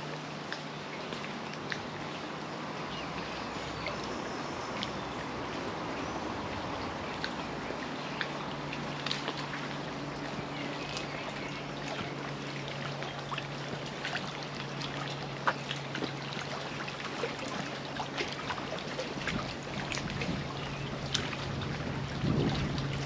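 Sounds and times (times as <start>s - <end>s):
lake waves lapping: 0.0s - 23.0s
little splashes: 0.0s - 23.0s
steady low hum: 0.0s - 23.0s.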